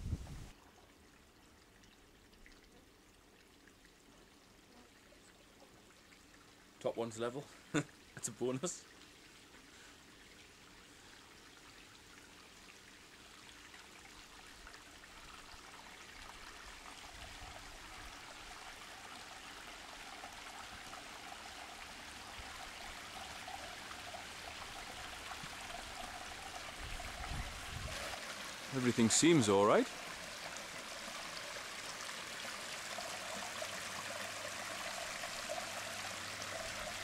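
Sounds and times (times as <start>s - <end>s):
water trickling and splashing: 0.0s - 37.0s.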